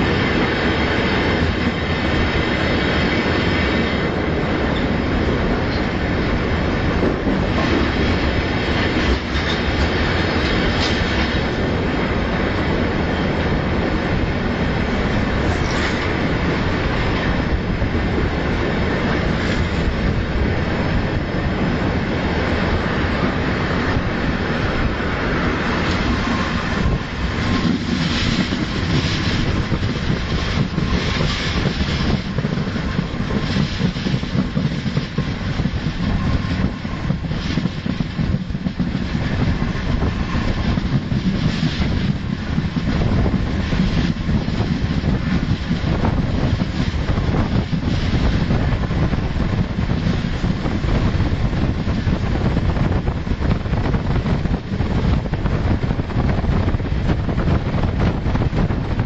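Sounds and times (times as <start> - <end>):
train wheels rolling on rails: 0.0 - 59.0
wind rushing past microphone: 0.0 - 59.0.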